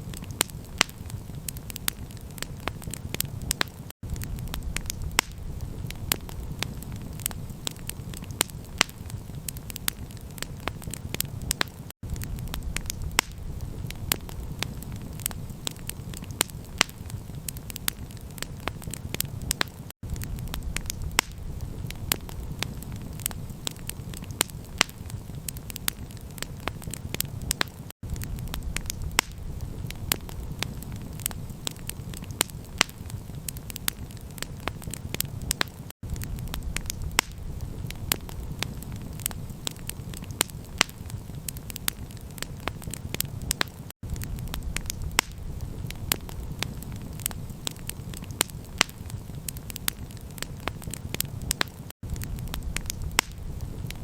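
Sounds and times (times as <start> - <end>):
campfire crackling and popping: 0.0 - 54.0
steady low rumble of fire: 0.0 - 54.0.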